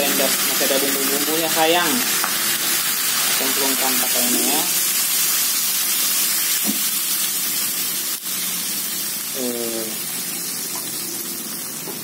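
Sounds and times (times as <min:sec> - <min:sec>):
water hissing in hot oil: 0:00.0 - 0:12.0.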